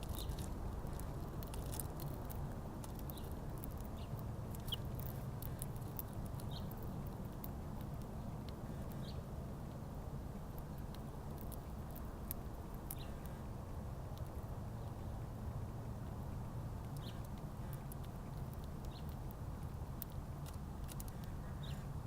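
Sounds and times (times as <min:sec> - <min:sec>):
light scattered ticks: 0:00.0 - 0:22.0
small birds chirping: 0:00.0 - 0:22.0.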